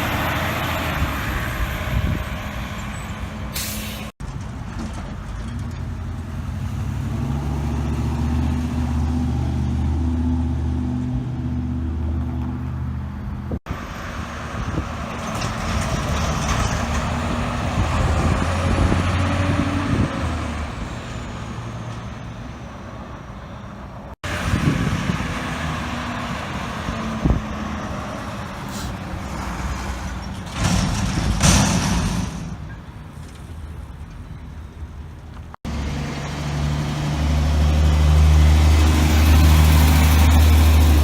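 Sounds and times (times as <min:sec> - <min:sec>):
diesel truck engines passing: 0:00.0 - 0:41.0.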